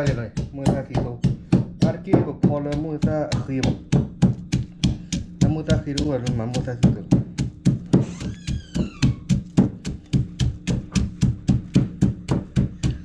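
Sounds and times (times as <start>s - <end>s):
knife chopping on a chopping board: 0.0s - 13.0s.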